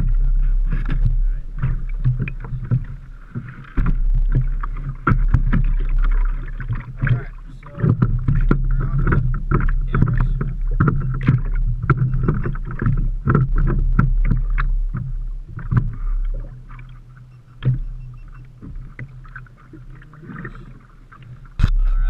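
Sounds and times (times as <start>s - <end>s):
steady low hum: 0.0s - 22.0s
water slapping against boat hull: 0.0s - 22.0s.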